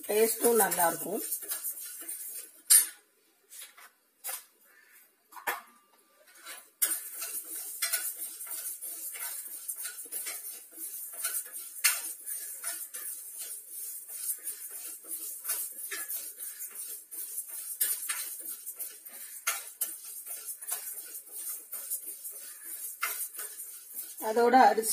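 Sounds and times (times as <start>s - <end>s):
metal ladle scraping metal pan: 0.0s - 3.0s, 6.2s - 24.9s.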